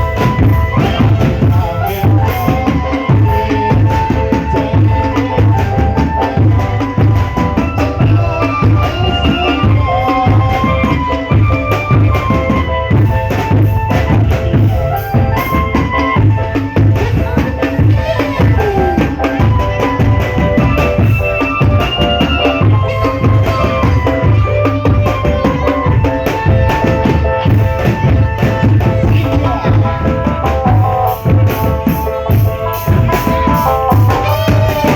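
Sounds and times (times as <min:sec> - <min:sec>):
marching drums and bass drum: 0:00.0 - 0:34.9.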